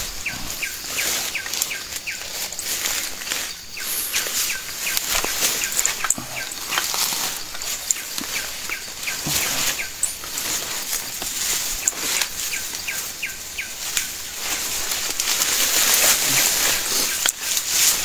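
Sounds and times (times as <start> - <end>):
birds chirping: 0.0 - 18.0
leaves and branches rustling: 0.0 - 18.0.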